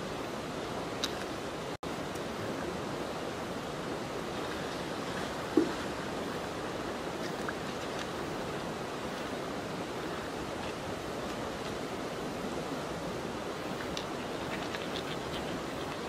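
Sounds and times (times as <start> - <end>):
shallow creek rushing: 0.0 - 16.0.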